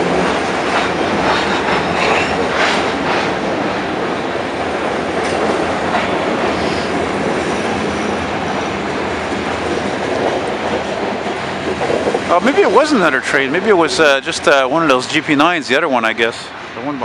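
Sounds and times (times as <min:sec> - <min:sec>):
train wheels rumbling and clattering: 0:00.0 - 0:17.0.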